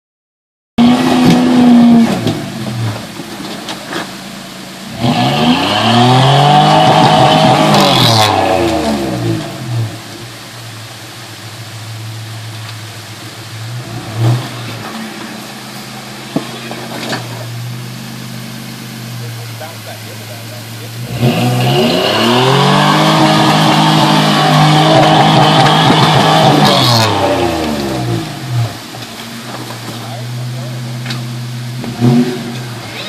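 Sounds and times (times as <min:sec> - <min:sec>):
engine revving and idling: 0:00.8 - 0:33.0.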